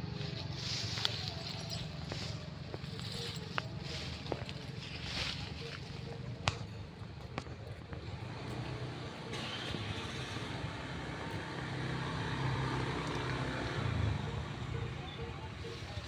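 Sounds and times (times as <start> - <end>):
vehicle engine hum: 0.0 - 16.0.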